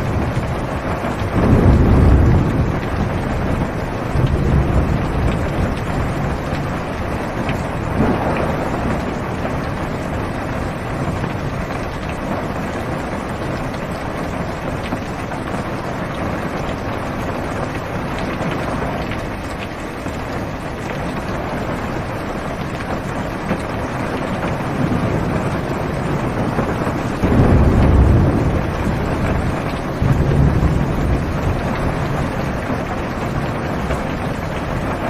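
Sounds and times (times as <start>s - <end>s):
heavy rain drumming on car roof: 0.0s - 35.0s
thunder rumbling: 0.0s - 35.0s.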